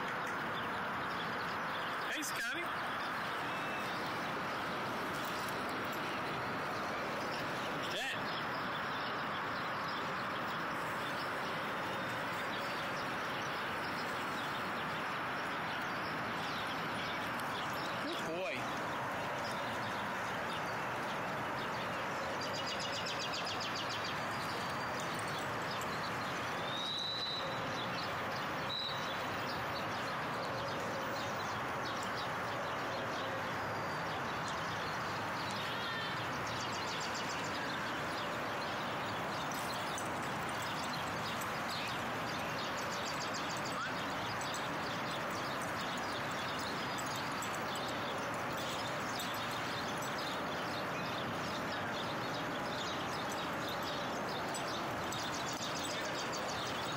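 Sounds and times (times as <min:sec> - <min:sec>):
city background hum: 0:00.0 - 0:56.9.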